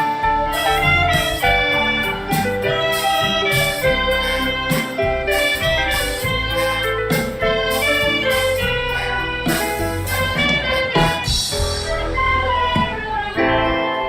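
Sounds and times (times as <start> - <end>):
bass: 0.0 - 14.0
drums: 0.0 - 14.0
keyboard: 0.0 - 14.0.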